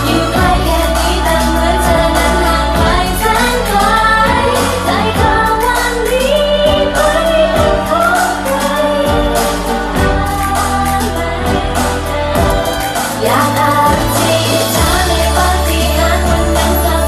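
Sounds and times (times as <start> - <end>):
pop song with singing: 0.0 - 17.0
steady drum beat: 0.0 - 17.0.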